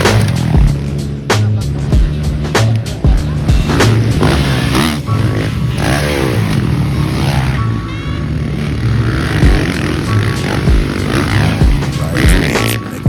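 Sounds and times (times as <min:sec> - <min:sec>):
background music: 0:00.0 - 0:13.0
dirt bike engines revving: 0:00.0 - 0:13.0.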